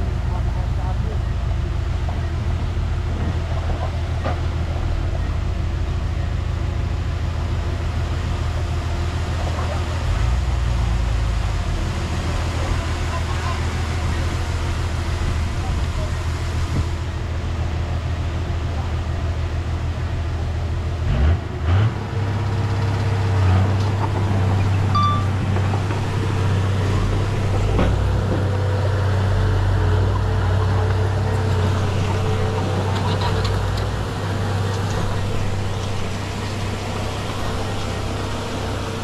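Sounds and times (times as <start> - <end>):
heavy diesel engine under load: 0.0 - 39.0.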